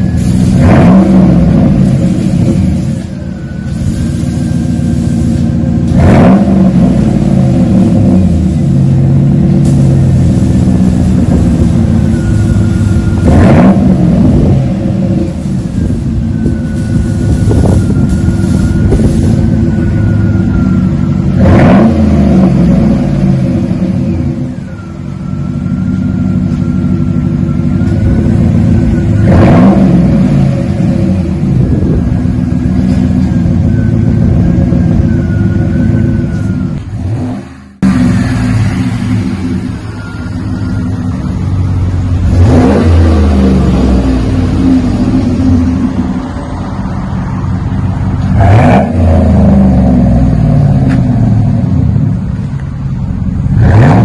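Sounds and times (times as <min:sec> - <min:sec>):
truck engine idling and revving: 0:00.0 - 0:54.0.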